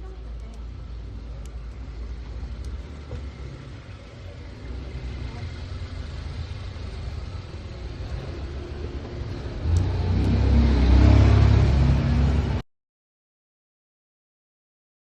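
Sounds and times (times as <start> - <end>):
vehicle engine rumble: 0.0 - 12.6.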